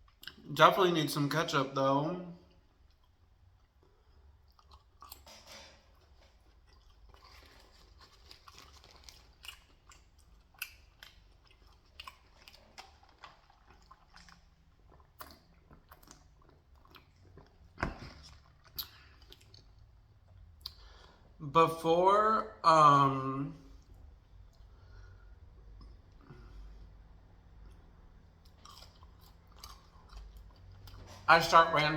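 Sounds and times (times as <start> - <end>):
person chewing food: 2.5 - 21.4, 23.6 - 31.3.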